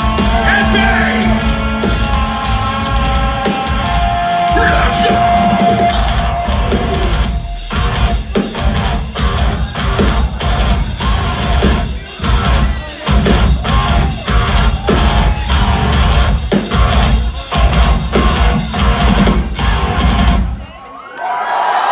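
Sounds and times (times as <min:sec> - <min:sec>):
drum kit: 0:00.0 - 0:20.6
heavy distorted guitars: 0:00.0 - 0:20.6.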